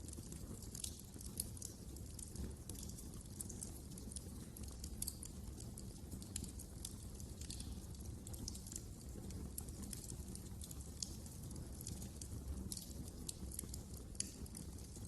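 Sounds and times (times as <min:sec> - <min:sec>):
low rumble of flames: 0:00.0 - 0:15.0
wood fire popping and snapping: 0:00.0 - 0:15.0.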